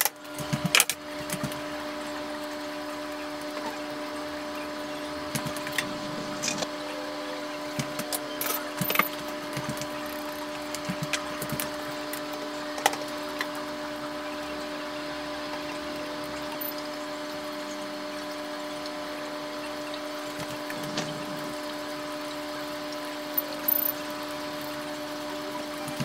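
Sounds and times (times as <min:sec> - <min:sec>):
steady hum: 0:04.0 - 0:26.0.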